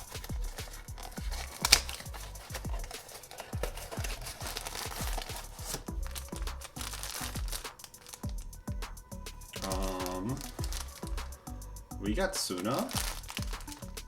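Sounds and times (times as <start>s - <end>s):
packaging crinkling: 0.0s - 8.8s, 9.5s - 11.5s, 12.2s - 14.0s
background music with steady beat: 0.0s - 14.0s.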